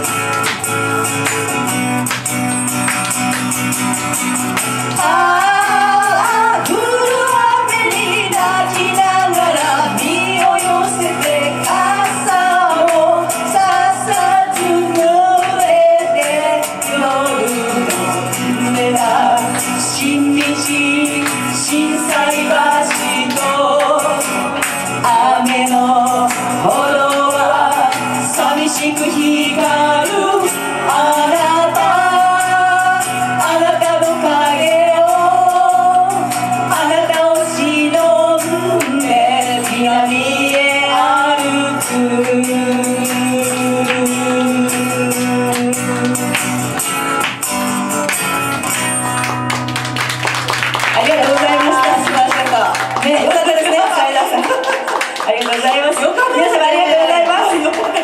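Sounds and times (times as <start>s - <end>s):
strummed acoustic guitar: 0.0s - 55.2s
woman singing pop song: 4.8s - 46.6s, 51.0s - 58.0s.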